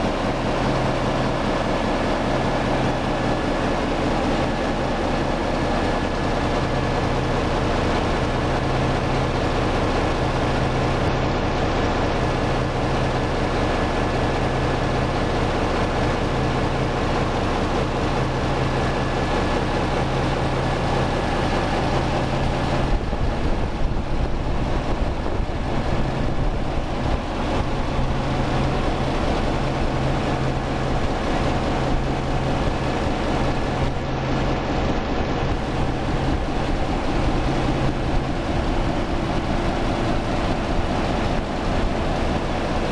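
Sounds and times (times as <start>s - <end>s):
diesel generator running: 0.0s - 42.9s.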